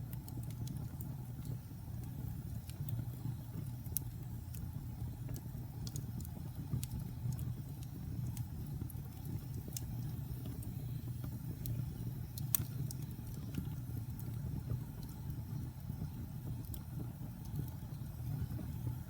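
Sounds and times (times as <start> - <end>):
fireplace flame rumbling: 0.0 - 19.0
wood fire crackling and popping: 0.0 - 19.0.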